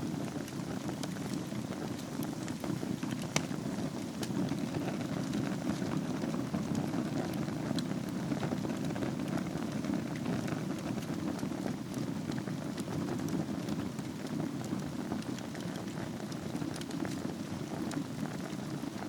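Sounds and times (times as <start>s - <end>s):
fire crackling and popping: 0.0s - 19.0s
low rush of flames: 0.0s - 19.0s.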